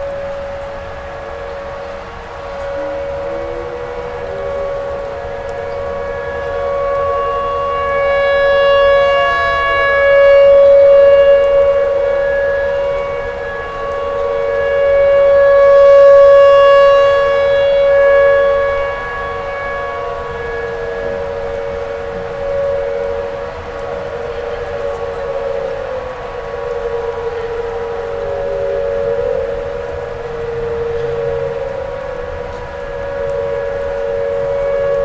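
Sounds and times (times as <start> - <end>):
tornado warning siren wailing: 0.0 - 35.0.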